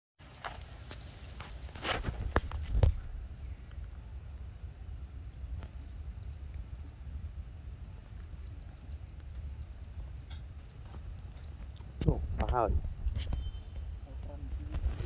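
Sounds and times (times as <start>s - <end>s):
small birds chirping: 0.2s - 7.2s, 7.9s - 12.0s, 12.6s - 14.7s
low rumble: 2.1s - 15.0s.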